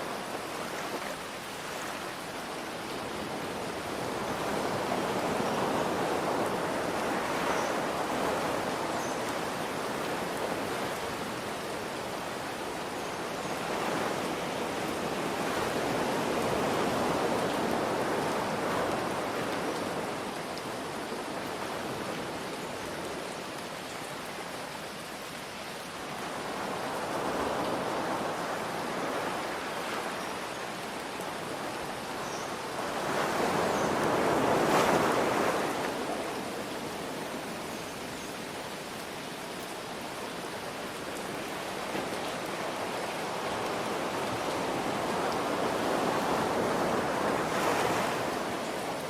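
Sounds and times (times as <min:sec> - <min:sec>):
light rain hiss: 0:00.0 - 0:49.0
ocean waves washing ashore: 0:00.0 - 0:49.0.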